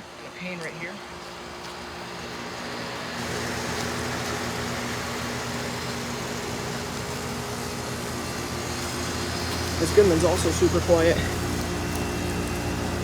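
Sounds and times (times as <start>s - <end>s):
compressor hum: 0.0s - 13.0s
condenser fan rushing: 0.0s - 13.0s.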